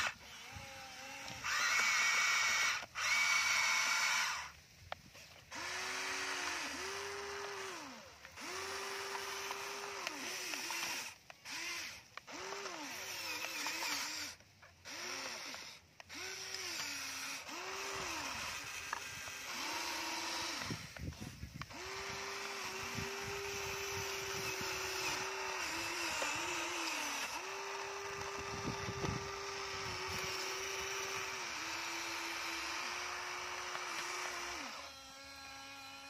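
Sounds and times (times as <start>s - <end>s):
electric motors whining: 0.0s - 36.0s.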